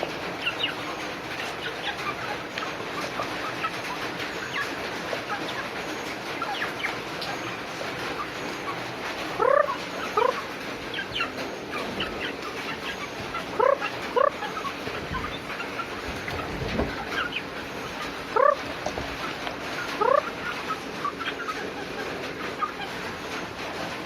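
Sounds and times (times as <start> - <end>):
loud bird calls: 0.0 - 23.6
rain falling: 0.0 - 24.0.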